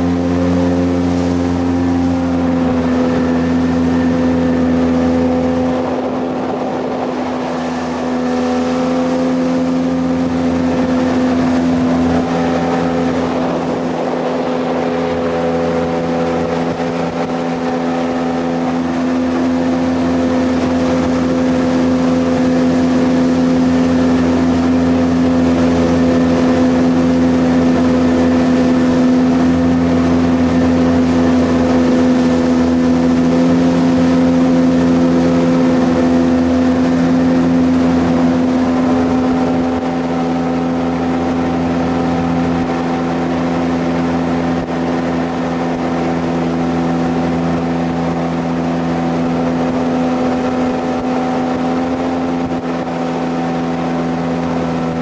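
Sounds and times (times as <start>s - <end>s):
jet boat engine running: 0.0s - 55.0s
water rushing under hull: 0.0s - 55.0s.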